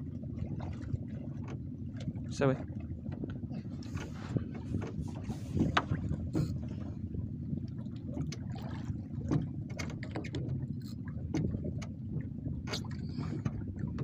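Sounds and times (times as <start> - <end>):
low rumble of wind and water: 0.0 - 14.0.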